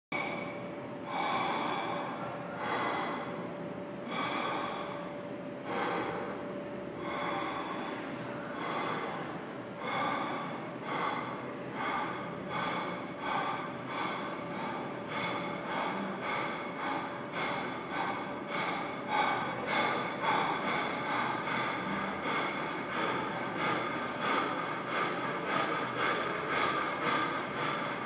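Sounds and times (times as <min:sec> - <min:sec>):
breathy hissing noise swells: 0:00.2 - 0:28.0.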